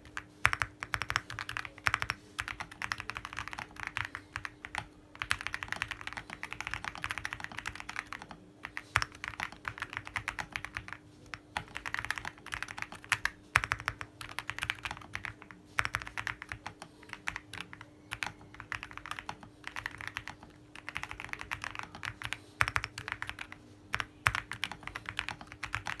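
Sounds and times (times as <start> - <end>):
fast mechanical keyboard typing: 0.0 - 11.0, 11.6 - 26.0.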